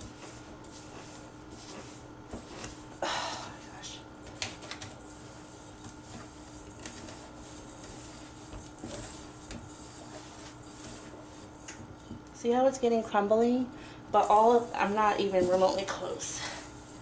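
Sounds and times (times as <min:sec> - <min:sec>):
hand mixing crumble in bowl: 0:00.0 - 0:03.0, 0:03.8 - 0:12.2, 0:14.1 - 0:17.0
faint steady hum: 0:00.0 - 0:17.0.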